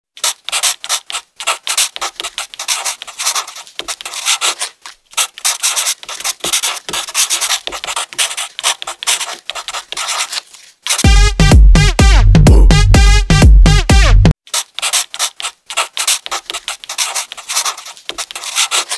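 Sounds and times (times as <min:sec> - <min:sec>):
pen scratching on paper: 0:00.2 - 0:11.0, 0:14.5 - 0:18.9.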